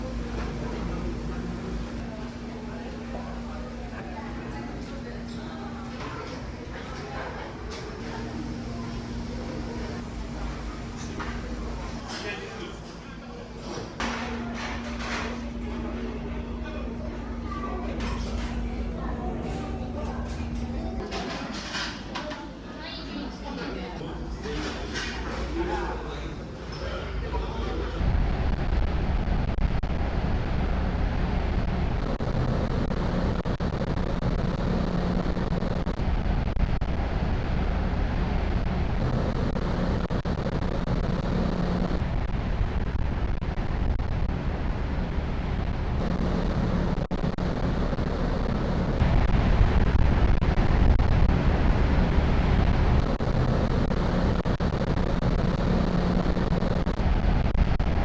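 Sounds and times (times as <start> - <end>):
ferry engine drone: 0.0 - 21.3, 24.0 - 58.0.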